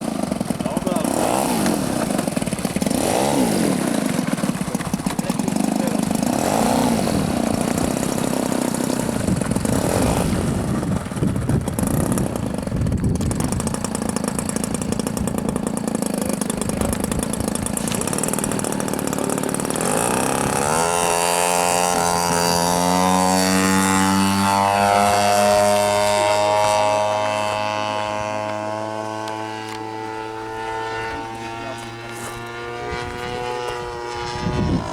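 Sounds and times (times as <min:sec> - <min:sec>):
model airplane engine revving: 0:00.0 - 0:34.9.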